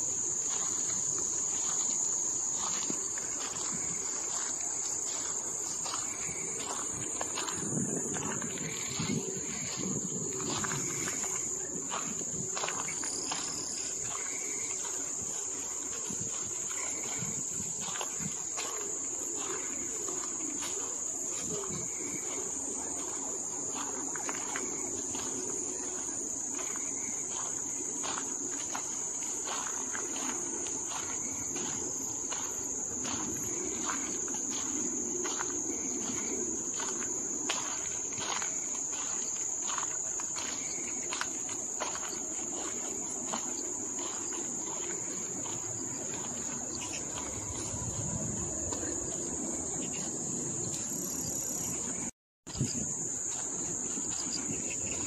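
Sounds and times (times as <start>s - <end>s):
footsteps: 0.0s - 55.0s
high-pitched insect chorus: 0.0s - 55.0s.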